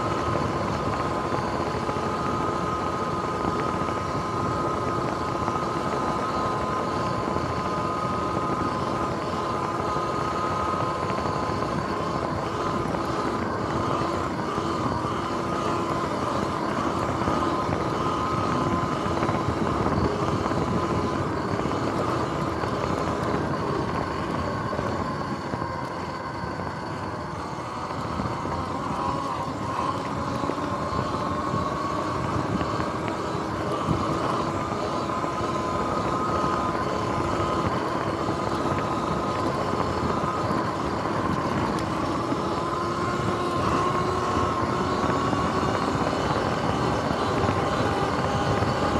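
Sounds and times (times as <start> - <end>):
electric motorbike motor whine: 0.0 - 48.9
wind noise: 0.0 - 48.9.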